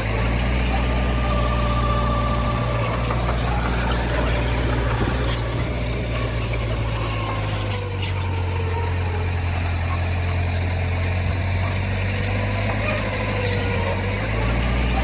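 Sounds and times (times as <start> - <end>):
heavy diesel engine humming: 0.0 - 15.0.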